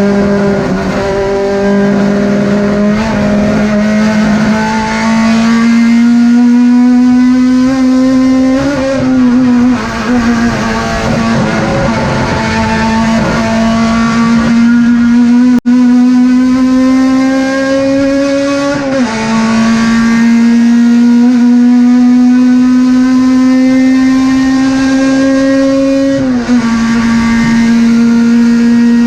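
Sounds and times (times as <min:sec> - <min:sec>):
race car engine at high revs: 0:00.0 - 0:29.0.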